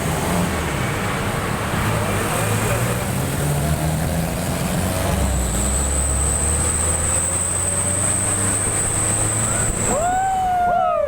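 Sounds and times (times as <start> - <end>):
road noise: 0.0 - 11.0
truck engine drone: 0.0 - 11.0.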